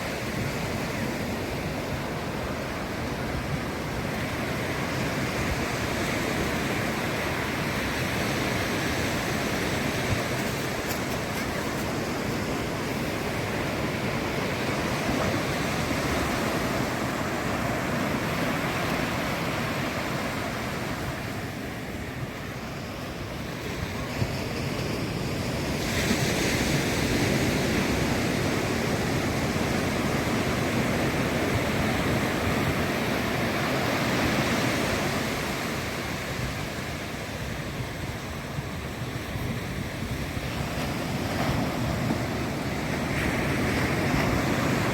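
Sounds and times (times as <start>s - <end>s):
ocean surf on beach: 0.0s - 44.9s.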